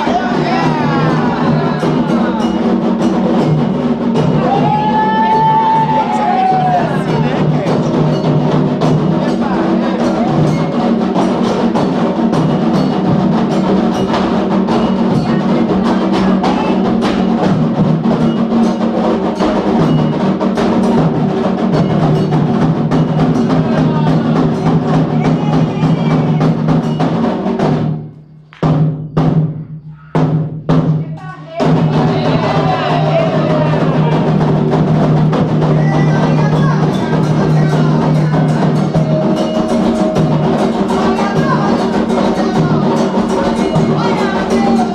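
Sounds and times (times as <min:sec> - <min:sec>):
hand drums playing fast rhythm: 0:00.0 - 0:44.9.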